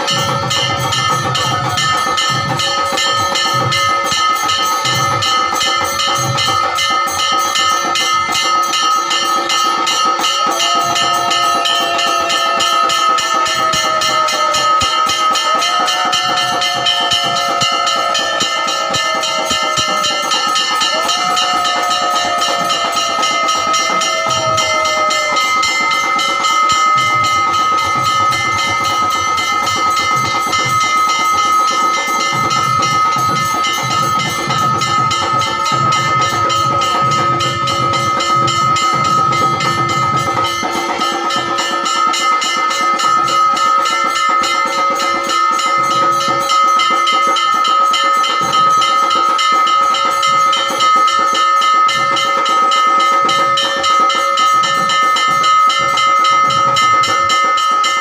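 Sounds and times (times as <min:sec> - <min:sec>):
constant high ringing tone: 0:00.0 - 0:58.0
rapid drumming: 0:00.0 - 0:58.0
ringing metal percussion: 0:00.0 - 0:58.0.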